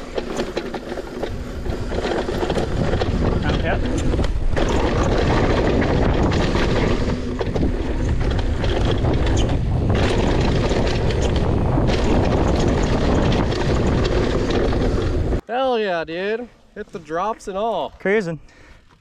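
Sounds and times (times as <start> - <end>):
bike rattling over bumps: 0.0 - 15.4
wind buffeting microphone: 0.0 - 15.4
tyres rumbling on dirt: 0.0 - 15.5.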